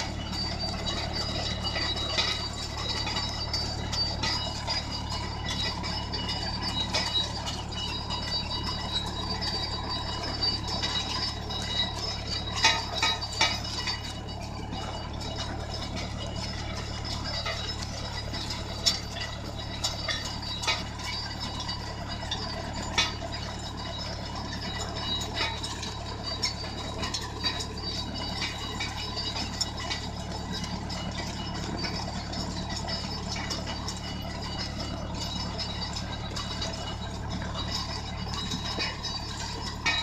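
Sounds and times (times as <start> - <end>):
metal parts rattling and clinking: 0.0 - 40.0
tractor diesel engine running: 0.0 - 40.0.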